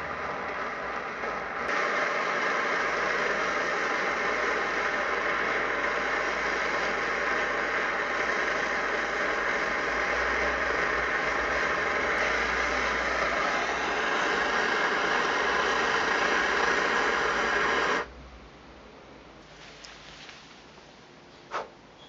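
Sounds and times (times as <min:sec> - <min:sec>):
gas stove burner rushing: 0:00.0 - 0:18.1.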